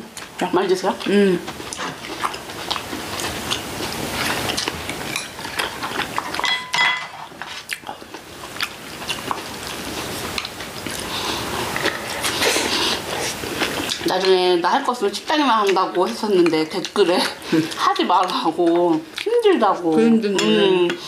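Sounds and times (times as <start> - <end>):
chewing: 1.0 - 14.5, 15.5 - 21.0.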